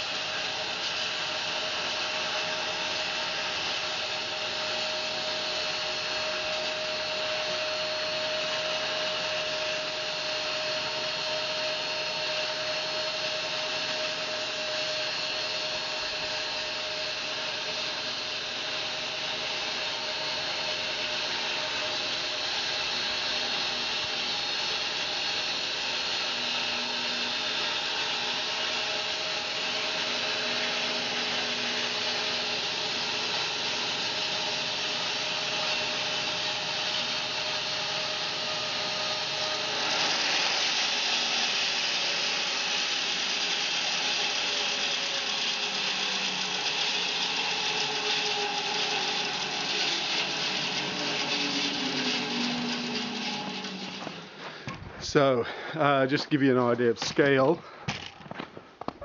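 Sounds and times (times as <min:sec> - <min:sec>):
bandsaw cutting log: 0:00.0 - 0:54.9.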